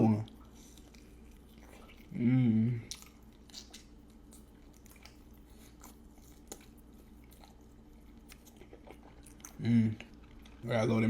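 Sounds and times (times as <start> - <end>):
person chewing with crunchy bites: 0.1 - 11.0.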